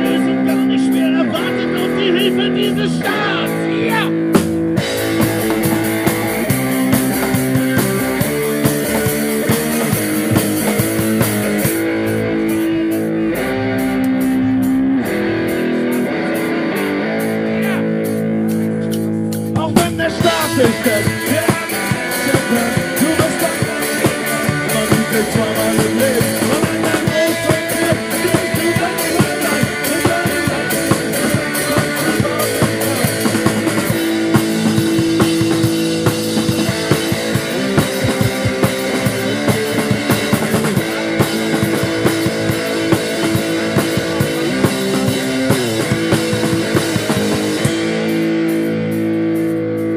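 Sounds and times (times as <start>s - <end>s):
drums steady beat: 0.0s - 49.9s
held guitar chords: 0.0s - 49.9s
rock band playing: 0.0s - 49.9s.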